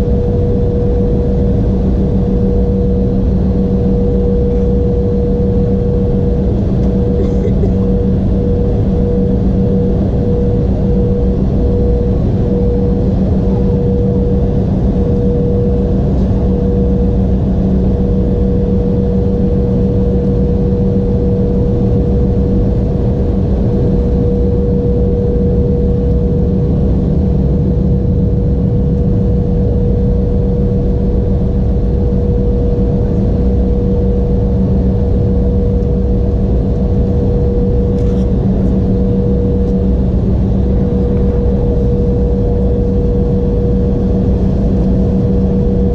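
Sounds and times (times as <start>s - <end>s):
airliner cabin noise: 0.0s - 45.9s.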